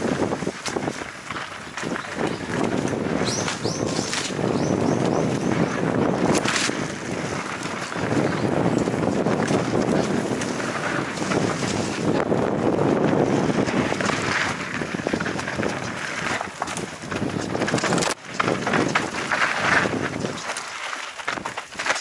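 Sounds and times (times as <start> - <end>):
wind buffeting microphone: 0.0 - 20.6
bike knocks and rattles: 0.0 - 22.0
tyres rushing on dirt: 0.0 - 22.0.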